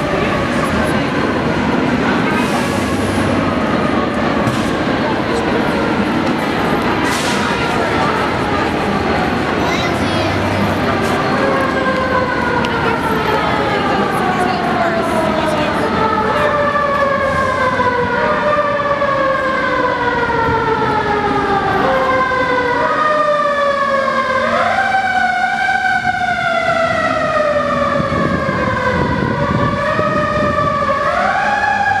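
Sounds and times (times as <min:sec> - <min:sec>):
emergency siren wailing: 0:00.0 - 0:32.0
low street rumble: 0:00.0 - 0:32.0.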